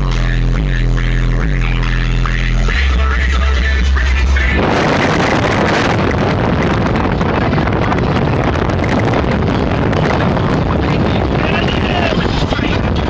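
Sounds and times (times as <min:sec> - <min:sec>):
traffic and road noise: 0:00.0 - 0:13.0
wind rushing over microphone: 0:00.8 - 0:13.0.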